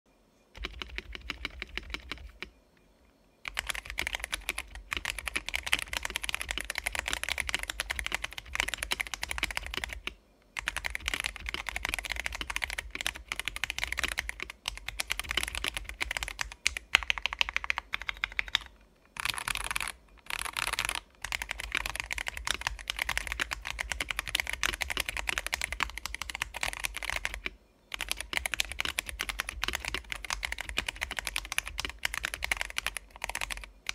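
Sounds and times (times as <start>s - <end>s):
mechanical keyboard typing: 0.6s - 2.5s, 3.4s - 33.9s.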